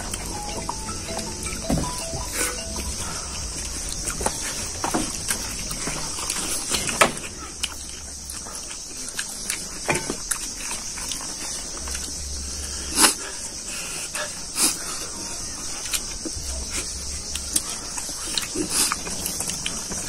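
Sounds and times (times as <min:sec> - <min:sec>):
steady high hiss: 0:00.0 - 0:17.5
people chewing: 0:00.0 - 0:20.0.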